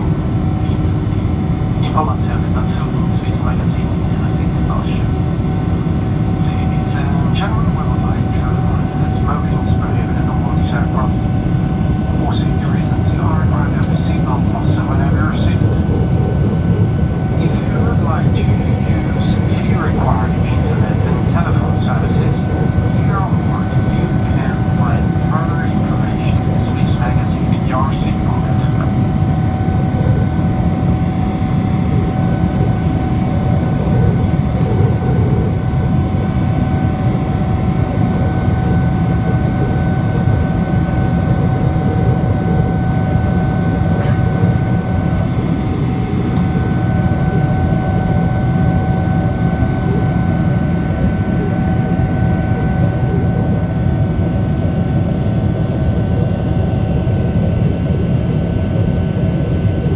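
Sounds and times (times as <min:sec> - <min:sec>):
airplane cabin rumble: 0:00.0 - 0:59.9
jet engine whine: 0:00.0 - 0:59.9.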